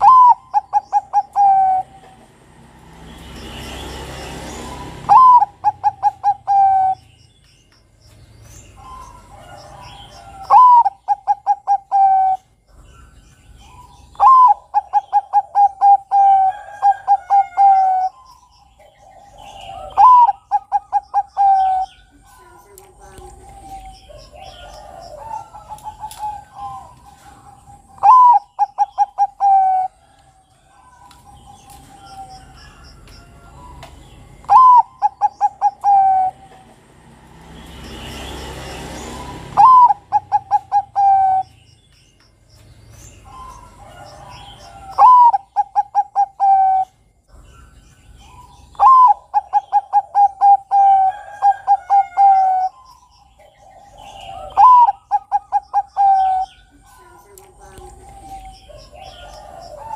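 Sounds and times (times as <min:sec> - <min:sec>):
dove cooing: 0:00.0 - 0:02.5, 0:04.6 - 0:07.2, 0:08.8 - 0:12.9, 0:13.6 - 0:37.0, 0:39.0 - 0:41.6, 0:43.2 - 0:47.6, 0:48.2 - 0:59.9
small birds chirping: 0:00.0 - 0:59.9.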